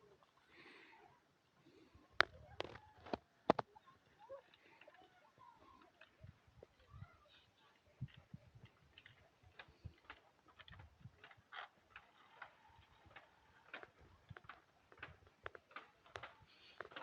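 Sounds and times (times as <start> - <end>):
faint irregular clicks: 2.0 - 17.0.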